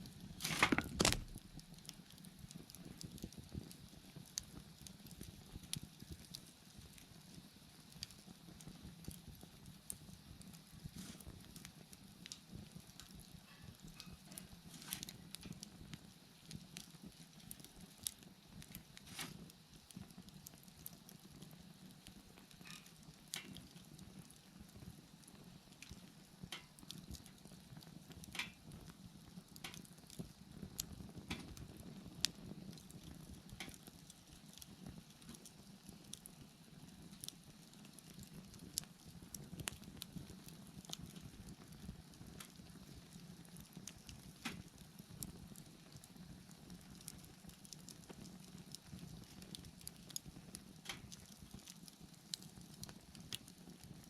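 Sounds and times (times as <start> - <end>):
burning wood crackling and popping: 0.0 - 54.0.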